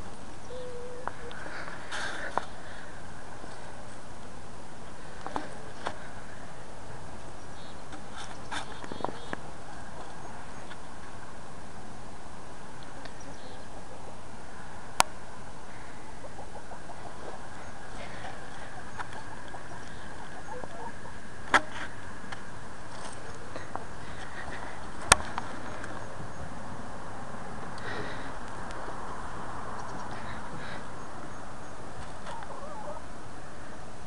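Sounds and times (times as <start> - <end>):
steady hiss: 0.0 - 32.4.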